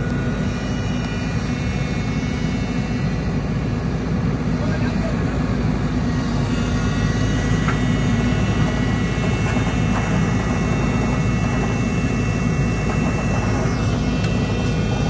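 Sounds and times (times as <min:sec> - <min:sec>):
excavator diesel engine running: 0:00.0 - 0:15.0
faint high whine: 0:00.0 - 0:15.0.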